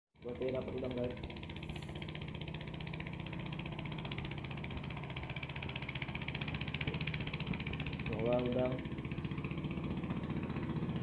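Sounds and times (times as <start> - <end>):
small engine idling: 0.2 - 11.0.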